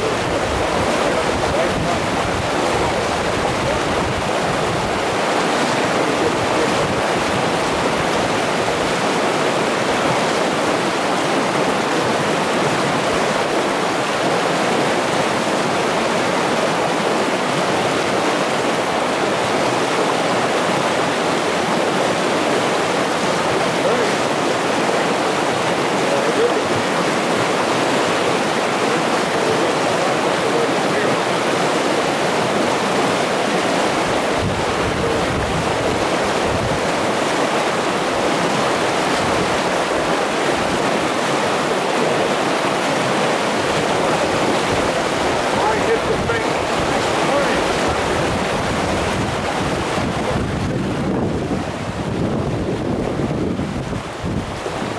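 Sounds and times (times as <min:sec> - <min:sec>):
water rushing over rocks: 0:00.0 - 0:54.9.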